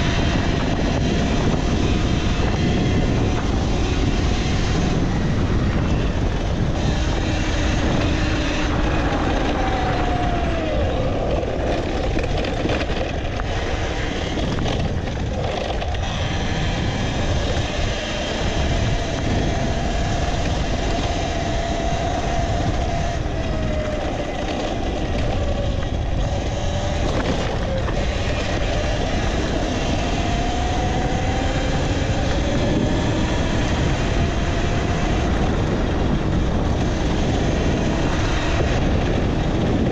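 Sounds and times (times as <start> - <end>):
electric motor whine: 0.0 - 39.9
wind and road noise: 0.0 - 39.9.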